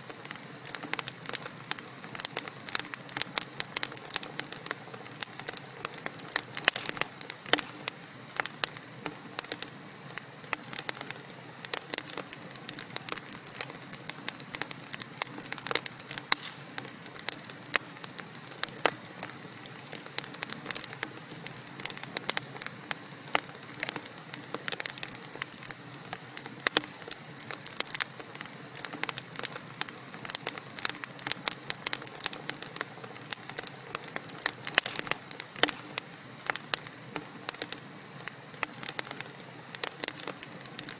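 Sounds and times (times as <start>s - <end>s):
fire hissing: 0.0s - 40.9s
logs crackling and popping: 0.0s - 40.9s.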